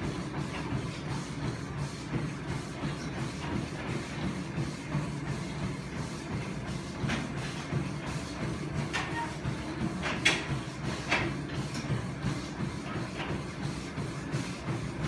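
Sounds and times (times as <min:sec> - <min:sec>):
cardio machine humming: 0:00.0 - 0:15.0.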